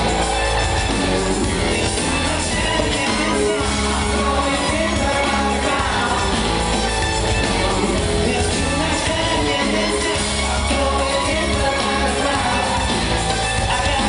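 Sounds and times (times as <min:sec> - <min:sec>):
electric bass line: 0:00.0 - 0:14.0
man singing lead vocal: 0:00.0 - 0:14.0.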